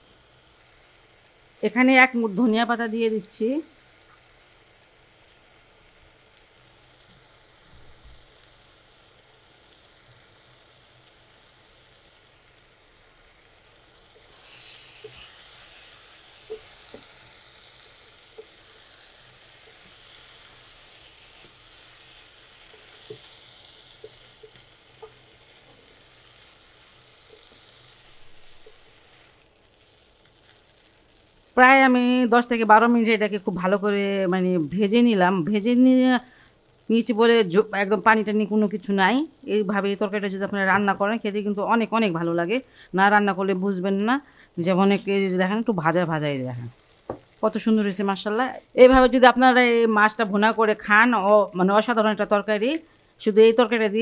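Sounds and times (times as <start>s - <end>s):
masala sizzling in a pan: 0.0s - 54.0s.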